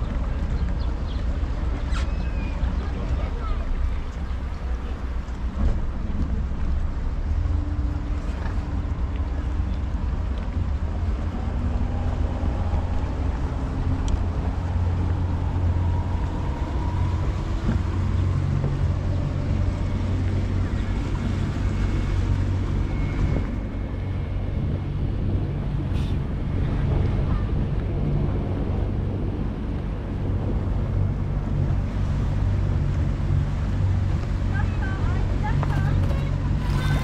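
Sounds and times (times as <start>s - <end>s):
motorboat engine rumbling: 0.0s - 37.0s
wind on microphone: 0.0s - 37.0s.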